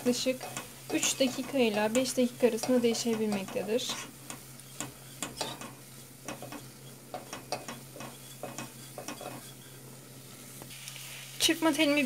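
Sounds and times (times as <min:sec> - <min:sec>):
whisk scraping a metal pot: 0:00.0 - 0:10.3
flour and fat sizzling: 0:00.0 - 0:12.0.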